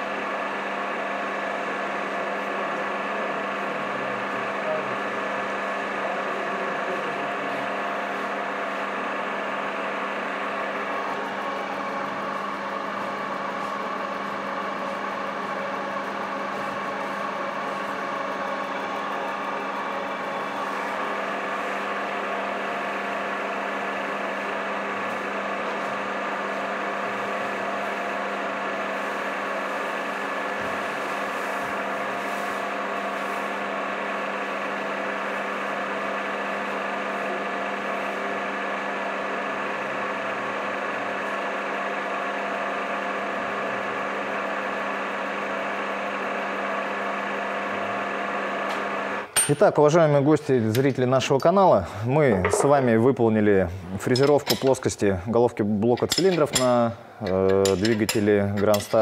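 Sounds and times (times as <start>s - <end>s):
milling machine humming: 0.0s - 49.5s, 55.9s - 59.0s.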